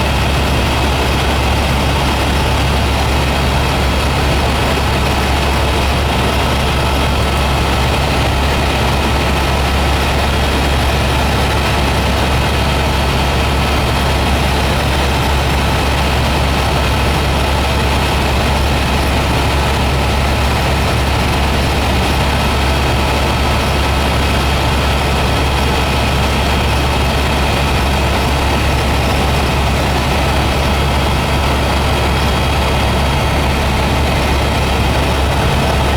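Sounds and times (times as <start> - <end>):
helicopter engine and rotors droning: 0.0 - 35.9.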